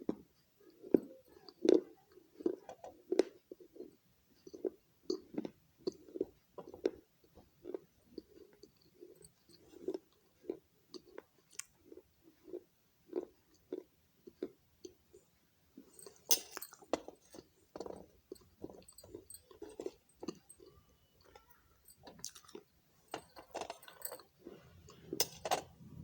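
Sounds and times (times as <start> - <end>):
person chewing clay: 0.0 - 23.5, 24.2 - 25.2.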